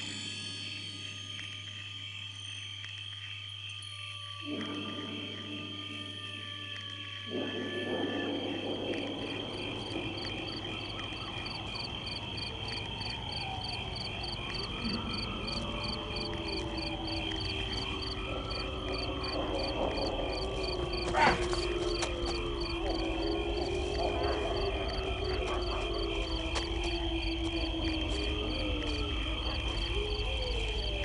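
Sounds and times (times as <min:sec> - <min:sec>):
crickets chirping: 0:00.0 - 0:31.0
frogs croaking: 0:00.0 - 0:31.0.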